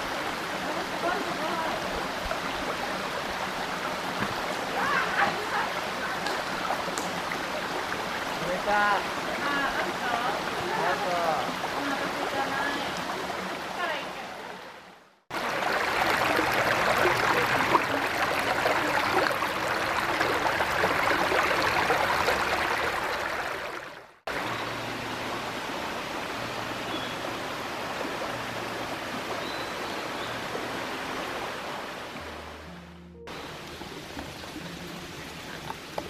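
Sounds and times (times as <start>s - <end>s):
stream rushing over rocks: 0.0s - 32.7s, 33.3s - 36.0s.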